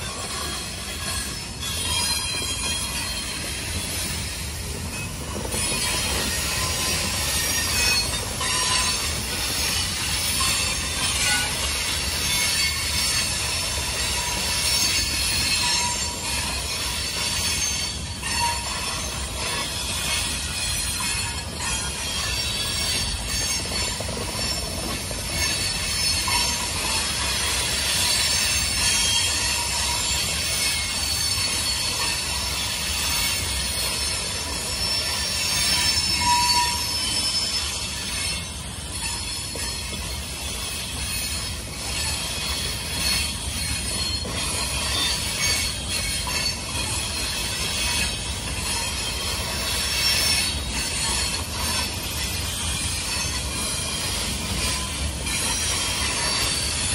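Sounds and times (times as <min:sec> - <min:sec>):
train rumble: 0:00.0 - 0:56.9
train wheels squealing: 0:00.0 - 0:56.9.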